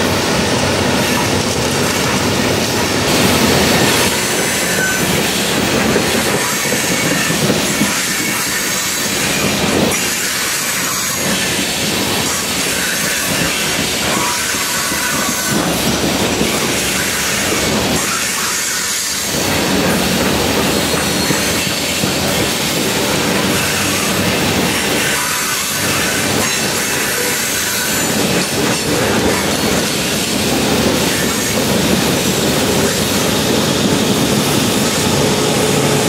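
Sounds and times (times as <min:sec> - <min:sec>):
freight train wheels on rails: 0:00.0 - 0:36.0.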